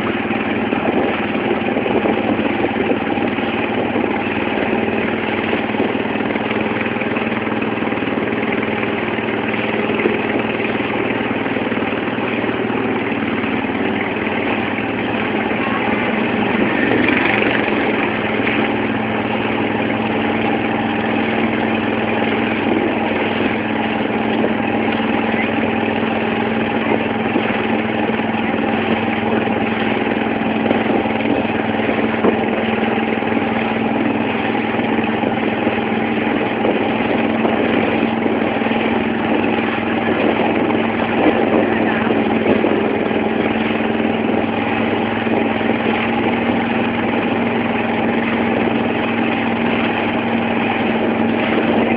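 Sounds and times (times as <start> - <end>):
motorboat engine running: 0.0 - 51.9
water splashing along hull: 0.0 - 51.9.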